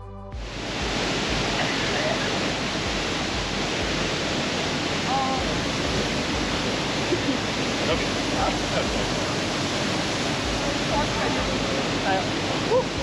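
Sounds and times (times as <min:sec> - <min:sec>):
faint voices: 0:00.0 - 0:13.0
waterfall roar: 0:00.4 - 0:13.0.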